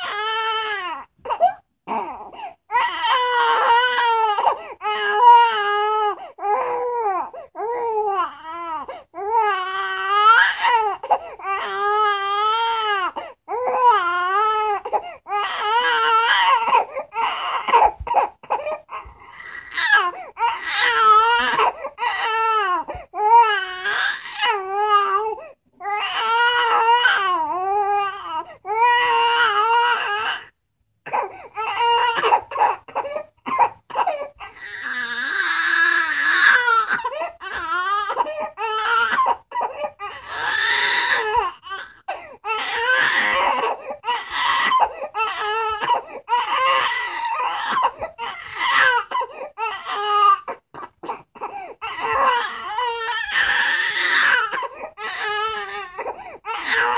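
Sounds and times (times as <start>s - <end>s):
baby crying: 0.0s - 56.9s.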